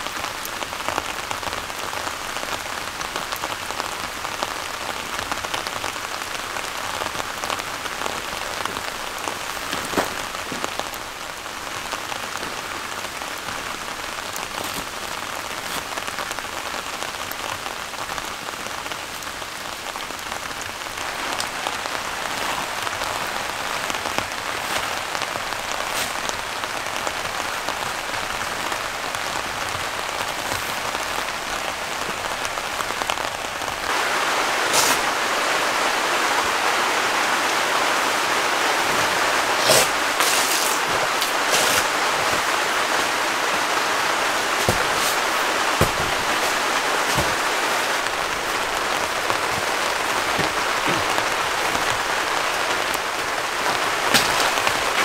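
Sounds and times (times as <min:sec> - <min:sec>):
raindrops striking close by: 0:00.0 - 0:55.0
steady rain falling: 0:00.0 - 0:55.0.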